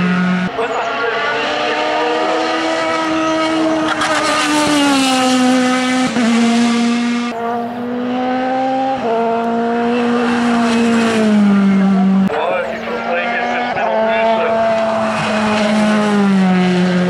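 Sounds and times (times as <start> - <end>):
racing car engine revving: 0.0 - 17.0.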